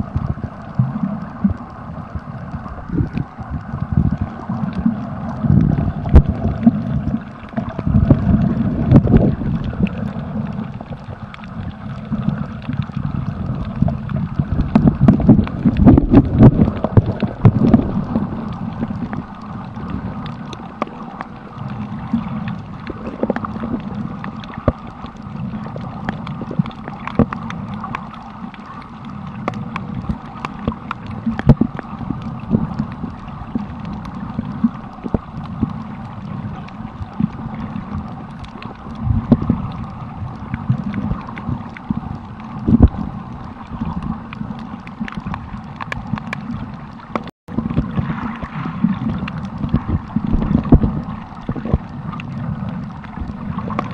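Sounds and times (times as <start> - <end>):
muffled underwater water rumble: 0.0 - 53.9
sharp clicks and crackles: 0.0 - 53.9.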